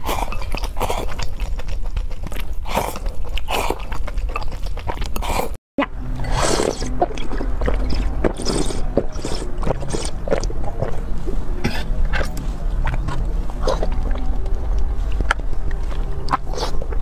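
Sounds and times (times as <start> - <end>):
mouth slurping jelly: 0.0 - 17.0.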